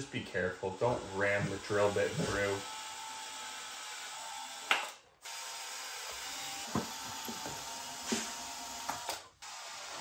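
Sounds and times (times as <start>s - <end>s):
power drill drilling metal: 0.0s - 10.0s.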